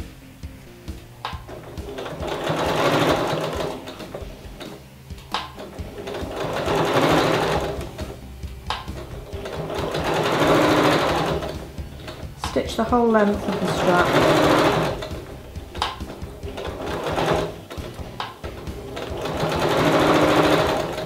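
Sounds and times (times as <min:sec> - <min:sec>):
sewing machine stitching: 0:01.3 - 0:04.8, 0:05.4 - 0:21.0.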